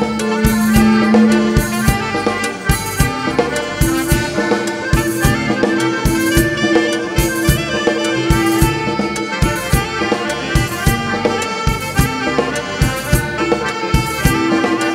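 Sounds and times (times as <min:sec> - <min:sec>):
held melodic note: 0:00.0 - 0:14.9
live band dance music: 0:00.0 - 0:14.9
steady drum beat: 0:00.0 - 0:14.9.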